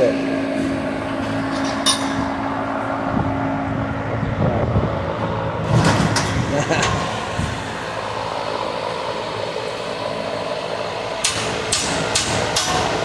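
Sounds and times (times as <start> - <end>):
fan whirring: 0.0 - 13.0
steady hum: 0.0 - 13.0.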